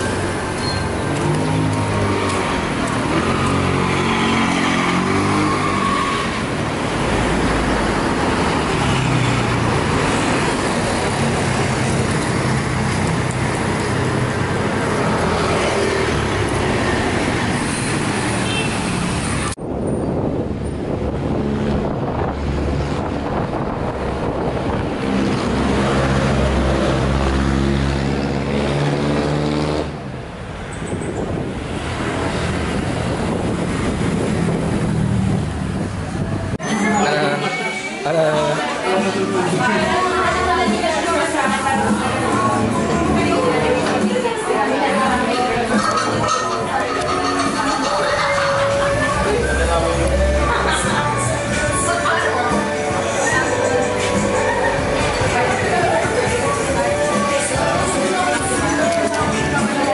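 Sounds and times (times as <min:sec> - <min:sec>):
street traffic passing: 0:00.0 - 0:59.9.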